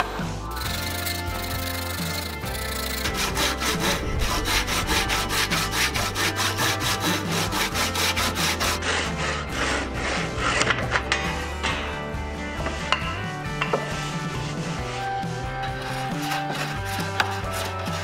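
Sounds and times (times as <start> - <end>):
handsaw sawing wood: 0.6 - 11.0, 13.8 - 18.0.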